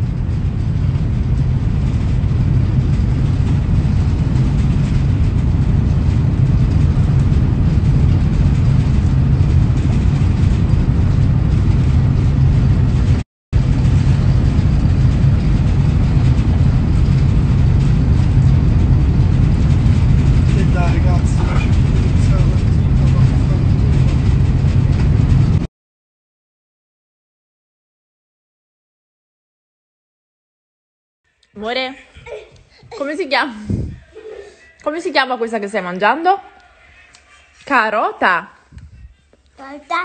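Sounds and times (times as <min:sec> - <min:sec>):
train rumbling: 0:00.0 - 0:25.7, 0:31.3 - 0:40.0.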